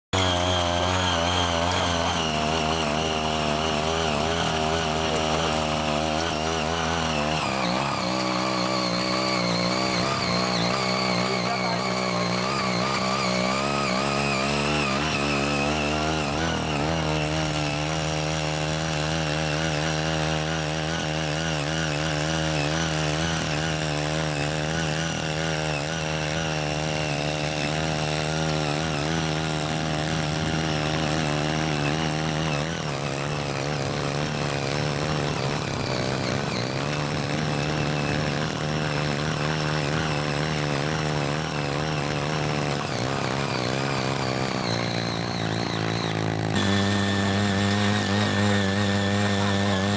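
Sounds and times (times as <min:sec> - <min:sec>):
tiller engine at high revs: 0:00.0 - 0:49.9.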